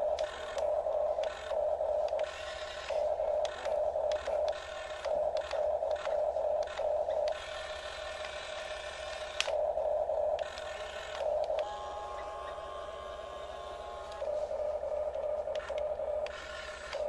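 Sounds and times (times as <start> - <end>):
electric gear motors whining: 0.0 - 17.0.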